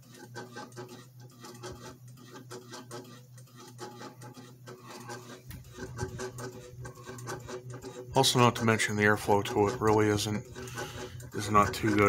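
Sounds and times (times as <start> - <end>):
ceiling fan motor hum: 0.0 - 12.0
fan clicking and ticking: 0.0 - 12.0.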